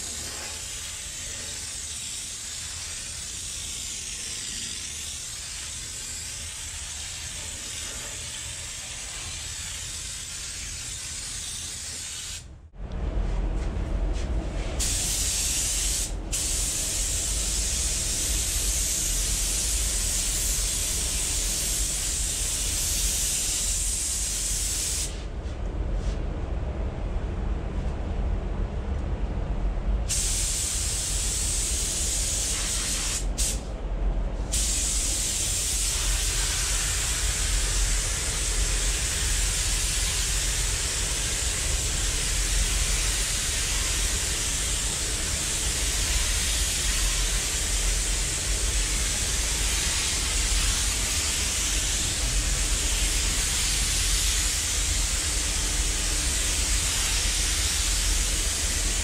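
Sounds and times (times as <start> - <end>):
spray gun hissing: 0.0 - 12.5, 14.8 - 25.3, 30.1 - 33.7, 34.5 - 59.0
ventilation rumble: 0.0 - 59.0.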